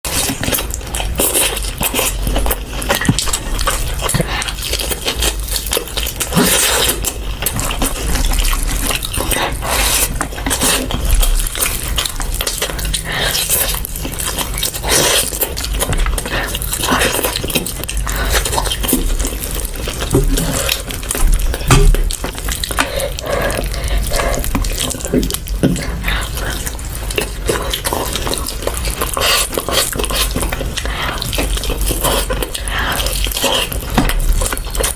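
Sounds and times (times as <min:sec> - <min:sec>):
wet chewing: 0:00.0 - 0:34.9.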